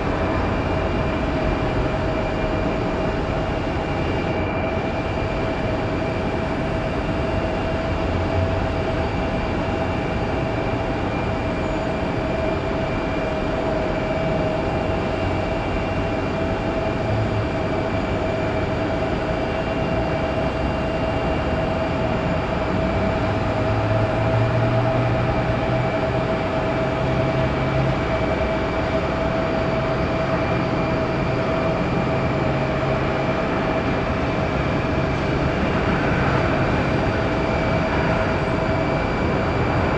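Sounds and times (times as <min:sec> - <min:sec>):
jet engine rumble: 0:00.0 - 0:39.9
jet engine whine: 0:00.0 - 0:39.9.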